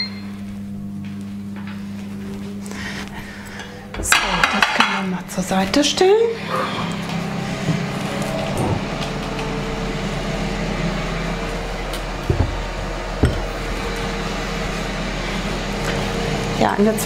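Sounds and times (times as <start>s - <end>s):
multicooker fan hum: 0.0s - 17.0s.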